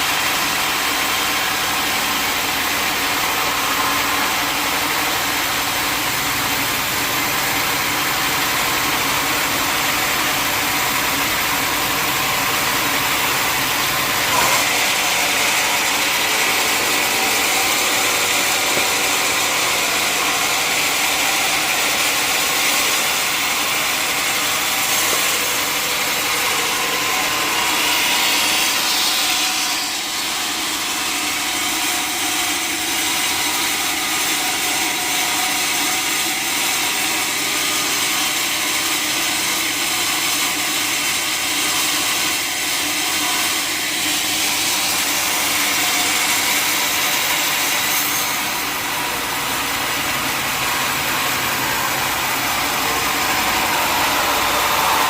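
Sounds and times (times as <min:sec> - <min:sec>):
saw blade cutting log: 0:00.0 - 0:55.0.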